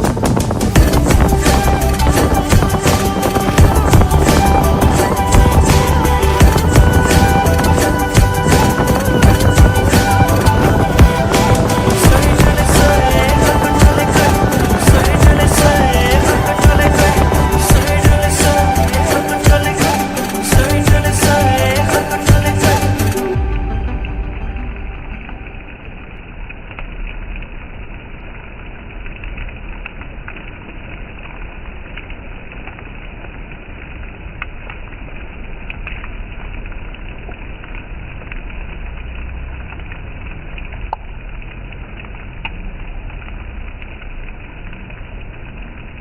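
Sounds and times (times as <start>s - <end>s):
low rumble: 0.0s - 46.0s
steady rain hiss: 0.0s - 46.0s.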